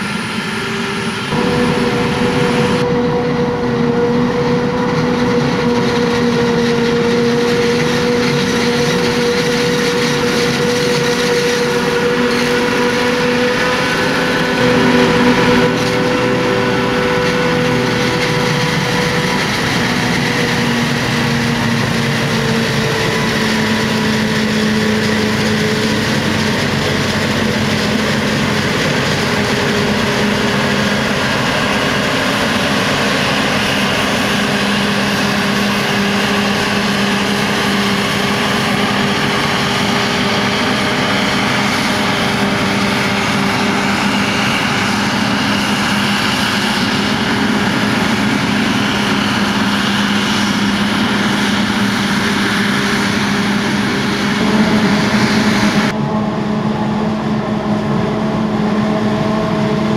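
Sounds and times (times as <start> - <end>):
forage harvester droning: 0.0 - 59.9
tractor engines: 0.0 - 59.9.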